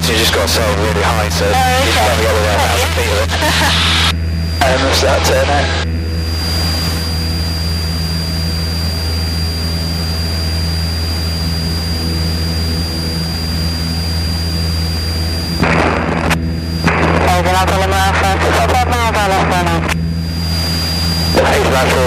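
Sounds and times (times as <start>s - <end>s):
propeller plane engine droning: 0.0s - 22.0s
thin high whine: 0.0s - 22.0s.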